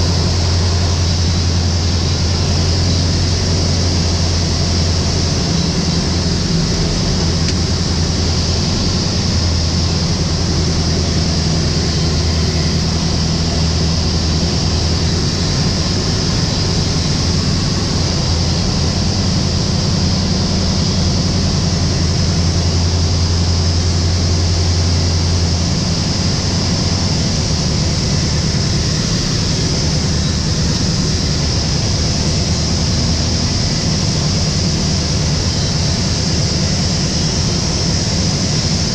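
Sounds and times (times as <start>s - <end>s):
aircraft engine and propeller droning: 0.0s - 38.9s.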